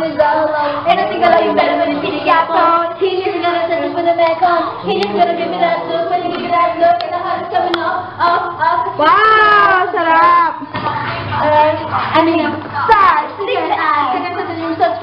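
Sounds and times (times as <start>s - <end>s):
young female voices singing: 0.0s - 15.0s.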